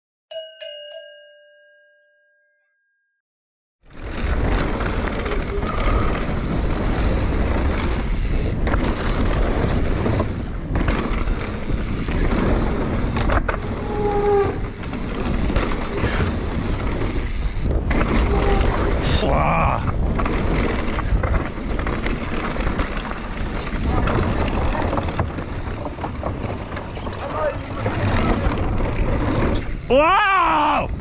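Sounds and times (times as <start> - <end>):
bike rattling: 3.9 - 31.0
tyres on loose dirt: 3.9 - 31.0
wind rush on microphone: 3.9 - 31.0.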